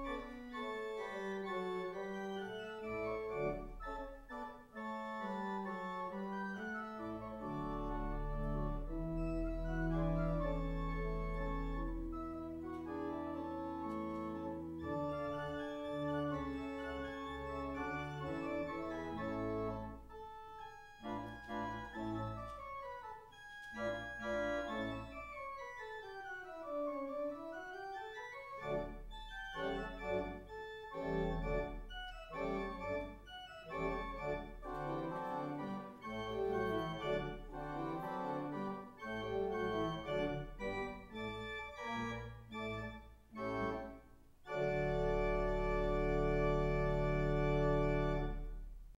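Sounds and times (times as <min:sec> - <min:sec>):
church organ playing: 0:00.0 - 0:48.6.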